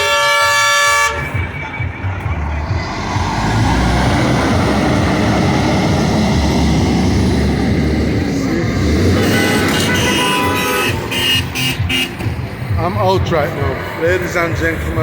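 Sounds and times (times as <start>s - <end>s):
heavy truck engine running: 0.1s - 15.0s.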